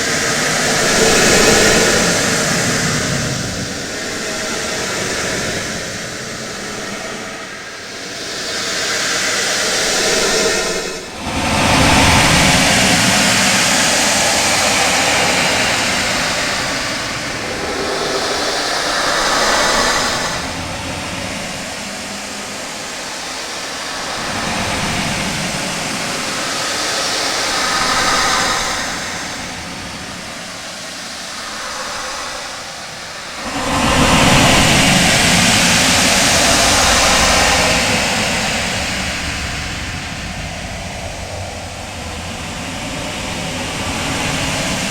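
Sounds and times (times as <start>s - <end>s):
dense rushing space ambience: 0.0s - 44.9s.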